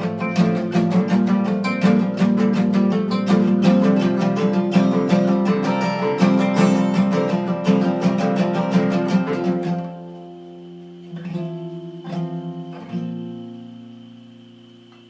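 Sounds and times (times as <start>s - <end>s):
acoustic guitar strumming: 0.0s - 15.0s
plucked guitar chords ringing: 0.0s - 15.0s.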